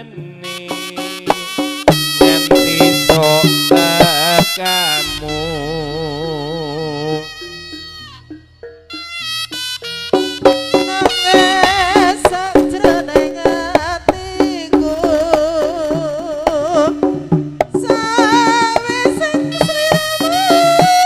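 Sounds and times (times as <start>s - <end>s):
drums playing quick rhythm: 0.0s - 21.0s
vibrato melody line: 0.0s - 21.0s.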